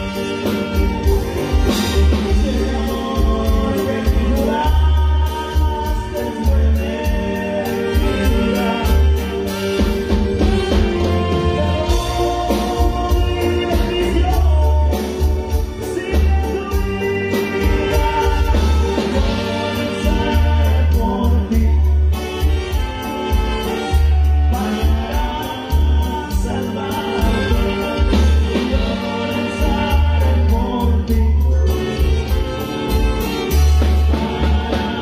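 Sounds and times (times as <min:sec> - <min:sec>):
live latin band playing: 0:00.0 - 0:35.0
person singing: 0:00.0 - 0:35.0.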